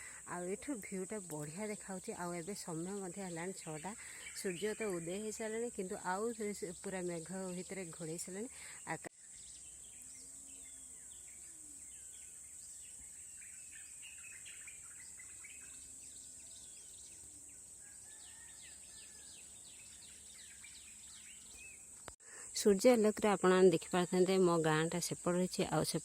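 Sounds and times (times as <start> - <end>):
high-pitched insect drone: 0.0 - 21.4
birds chirping: 0.0 - 22.5.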